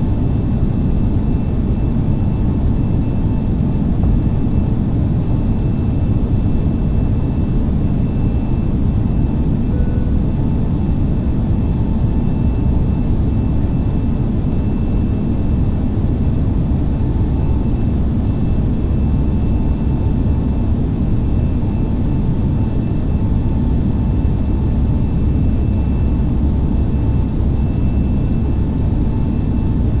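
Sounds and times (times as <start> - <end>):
faint whining tones: 0.4 - 30.0.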